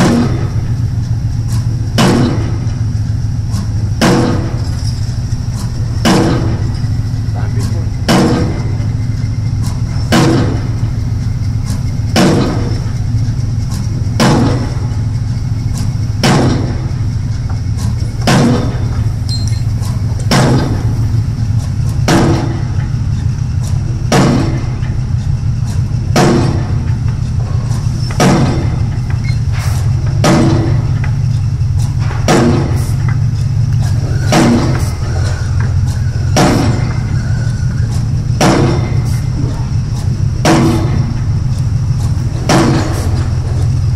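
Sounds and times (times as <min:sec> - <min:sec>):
pile hammer striking: 0:00.0 - 0:02.8, 0:03.5 - 0:43.9
excavator engine drone: 0:00.0 - 0:43.9.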